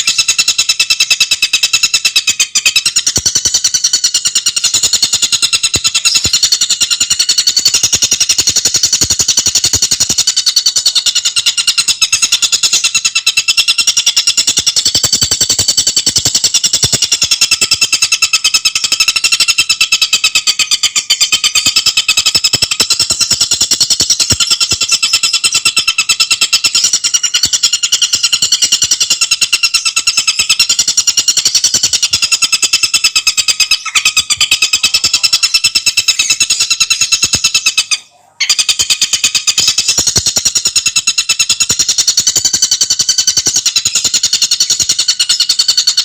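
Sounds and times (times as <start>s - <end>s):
bird chattering trill: 0.0s - 46.0s.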